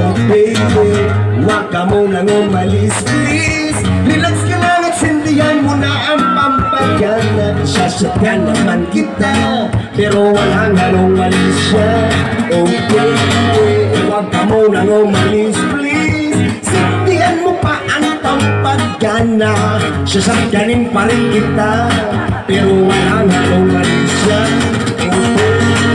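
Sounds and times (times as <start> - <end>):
acoustic guitar strummed and picked: 0.0 - 25.9
person singing: 0.0 - 25.9.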